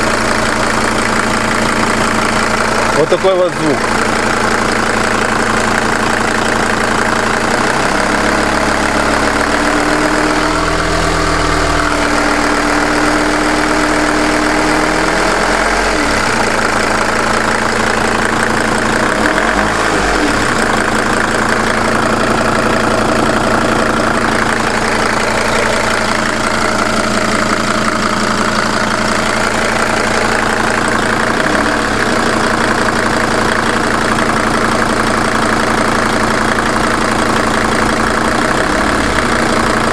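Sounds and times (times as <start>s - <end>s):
diesel engine idling: 0.0s - 39.9s
engine knock: 0.0s - 39.9s.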